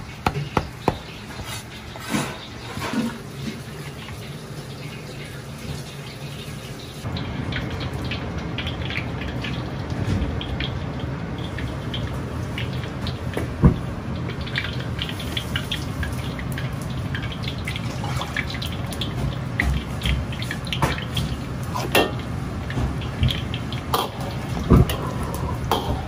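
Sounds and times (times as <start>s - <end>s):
hot oil sizzling and crackling: 0.0s - 26.0s.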